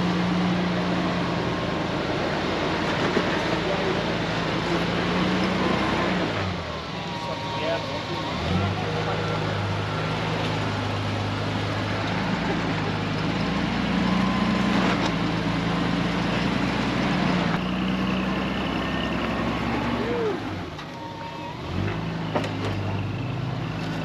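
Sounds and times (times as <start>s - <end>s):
vehicle engine at low revs: 0.0s - 24.0s.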